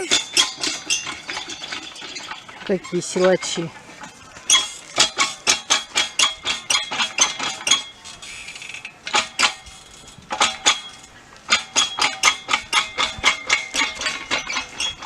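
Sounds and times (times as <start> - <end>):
exercise machine metal clanking: 0.0 - 15.0.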